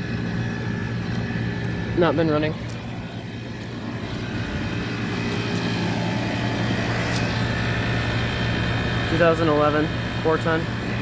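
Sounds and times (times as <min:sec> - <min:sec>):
compressor hum: 0:00.0 - 0:11.0
condenser fans: 0:00.0 - 0:11.0.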